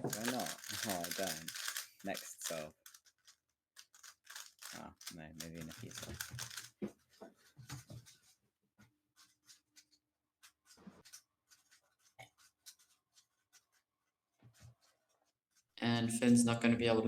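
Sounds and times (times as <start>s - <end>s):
faint clicks and rustles: 0.0s - 8.4s, 9.1s - 15.8s.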